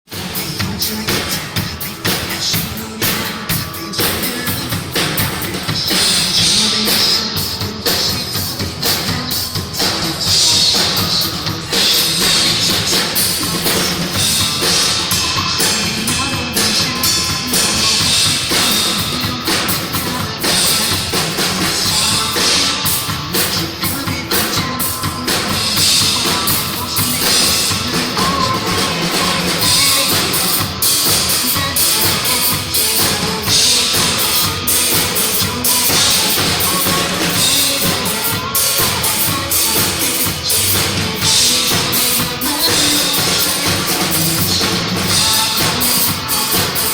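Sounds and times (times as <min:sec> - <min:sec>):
music with drum-kit beat: 0:00.1 - 0:46.9.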